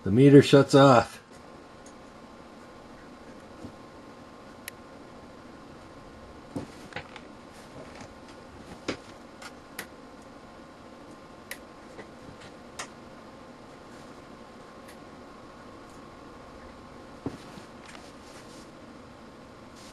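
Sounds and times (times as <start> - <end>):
electrical hum: 0.0 - 19.9.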